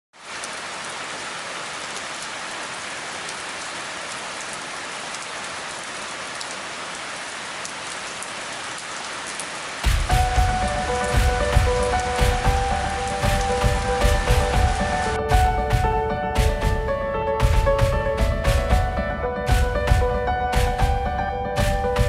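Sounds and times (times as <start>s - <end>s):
rain falling into water: 0.1s - 22.0s.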